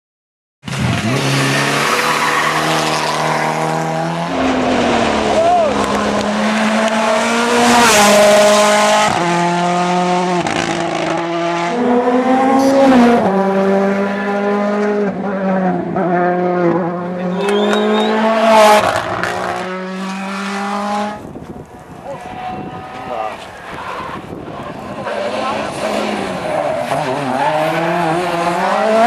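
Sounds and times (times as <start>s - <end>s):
rally car engine revving: 0.7s - 21.3s, 22.3s - 29.0s.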